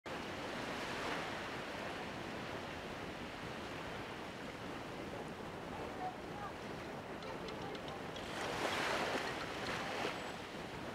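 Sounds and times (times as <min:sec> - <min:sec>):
gentle sea water: 0:00.1 - 0:10.9.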